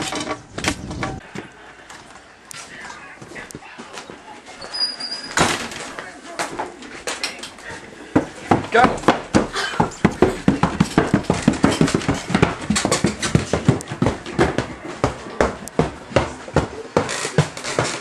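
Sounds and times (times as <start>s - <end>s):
footsteps climbing stairs: 0.0s - 18.0s.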